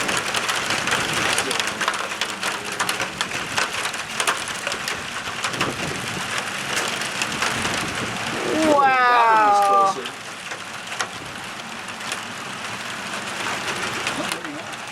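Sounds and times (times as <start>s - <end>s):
rain falling: 0.0s - 14.9s
raindrops clicking on surface: 0.0s - 14.9s.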